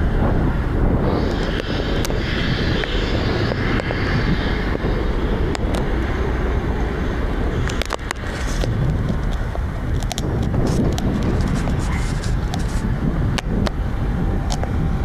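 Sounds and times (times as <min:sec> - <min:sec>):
heavy machinery rumble: 0:00.0 - 0:15.0
wind buffeting microphone: 0:00.0 - 0:15.0.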